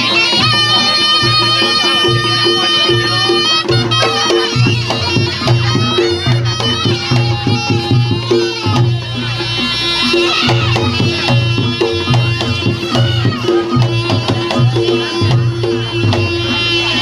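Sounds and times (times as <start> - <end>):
reed shawm melody: 0.0 - 17.0.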